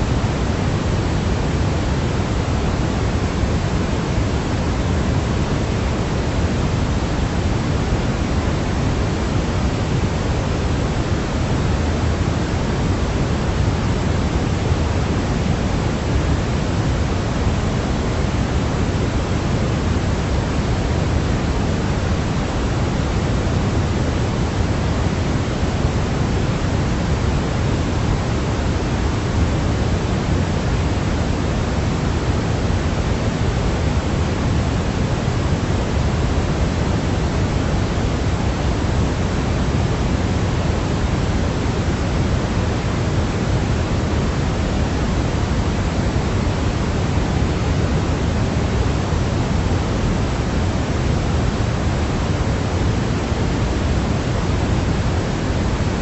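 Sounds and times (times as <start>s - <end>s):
deep white noise: 0.0s - 56.0s.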